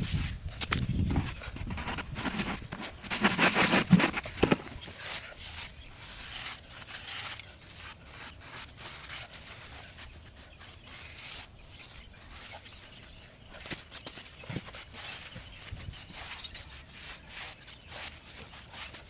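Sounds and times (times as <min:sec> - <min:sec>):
tool scraping wood: 0:01.4 - 0:19.0.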